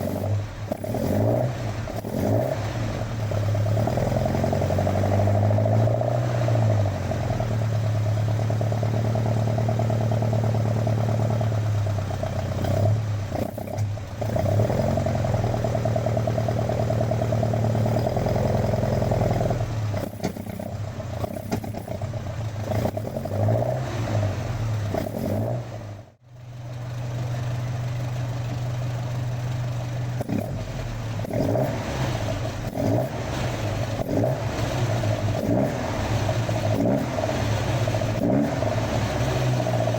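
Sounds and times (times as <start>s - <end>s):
car engine revving through gears: 0.0s - 11.7s, 12.3s - 26.2s, 30.1s - 39.9s.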